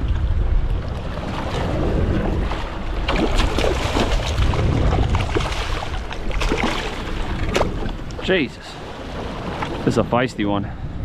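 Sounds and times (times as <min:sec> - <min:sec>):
water around boat hull: 0:00.0 - 0:11.0
wind buffeting microphone: 0:00.0 - 0:11.0.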